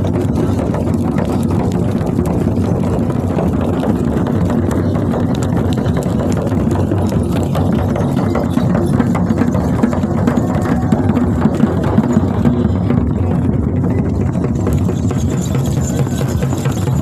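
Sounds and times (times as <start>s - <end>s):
frame drums beaten rapidly: 0.0s - 17.0s.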